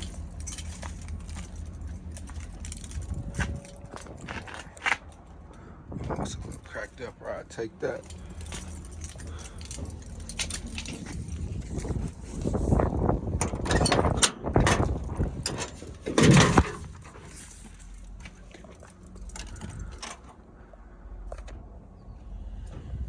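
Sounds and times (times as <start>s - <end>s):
handling noise: 0.0s - 7.1s, 8.0s - 20.4s.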